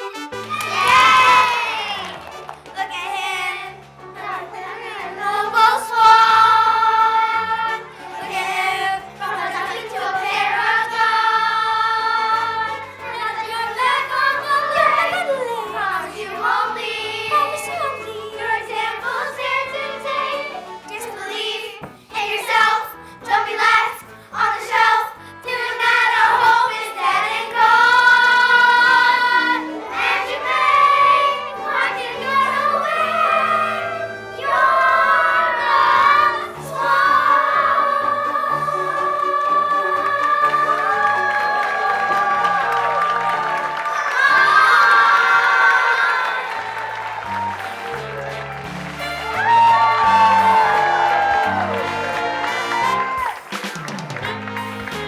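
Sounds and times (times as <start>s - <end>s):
musical accompaniment: 0.0s - 55.0s
group singing a show tune: 0.1s - 48.0s.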